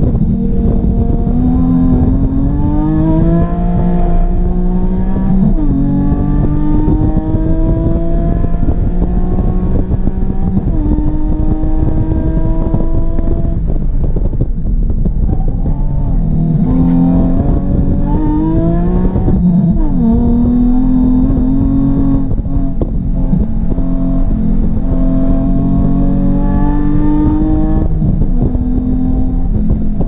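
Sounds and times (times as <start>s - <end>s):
car engine accelerating hard: 0.0s - 30.0s.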